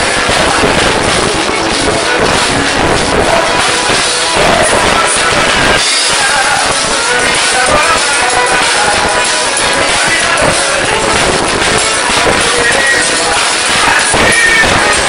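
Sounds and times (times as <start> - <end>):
accordion: 0.0 - 15.0
live band music: 0.0 - 15.0.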